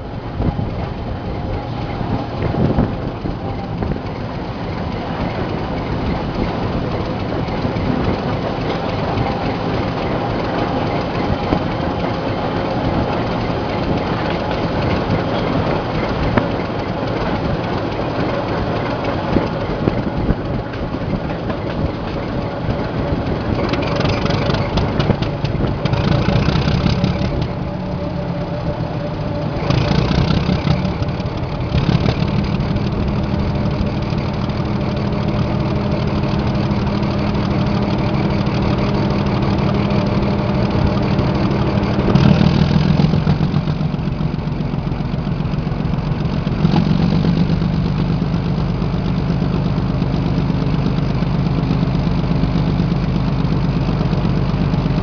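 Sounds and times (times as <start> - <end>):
diesel locomotive engine: 0.0 - 55.0
train running noise: 0.0 - 55.0.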